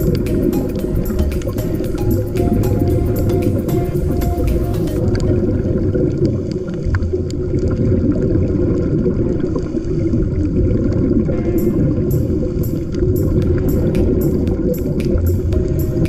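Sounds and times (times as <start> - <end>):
muffled underwater rumble: 0.0 - 15.8
water and air gurgling: 0.0 - 16.0.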